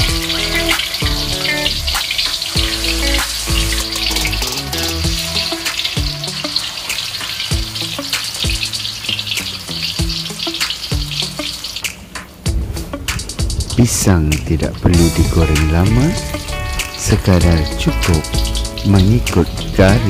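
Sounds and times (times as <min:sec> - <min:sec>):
food deep-frying in hot oil: 0:00.0 - 0:12.2, 0:14.8 - 0:20.0
background music with steady beat: 0:00.0 - 0:20.0.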